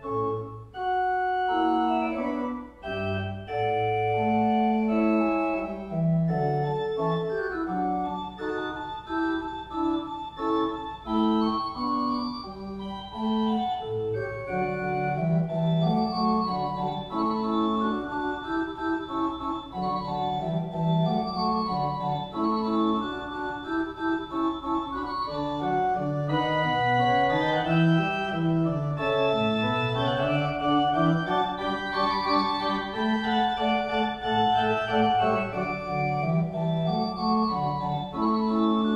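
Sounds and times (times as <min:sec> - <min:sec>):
pipe organ playing: 0:00.0 - 0:38.9.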